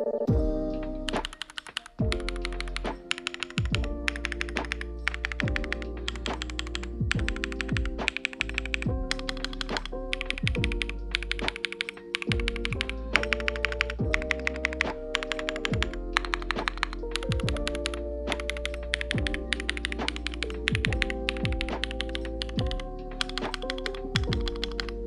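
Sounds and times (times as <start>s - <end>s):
electronic music with steady beat: 0.0s - 25.0s.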